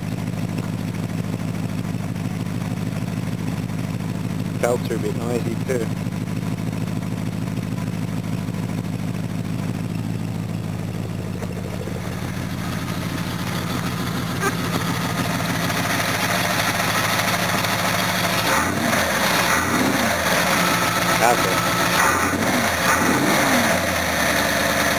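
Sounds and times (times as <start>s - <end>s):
car engine idling: 0.0s - 24.9s
noisy engine belts: 0.0s - 24.9s.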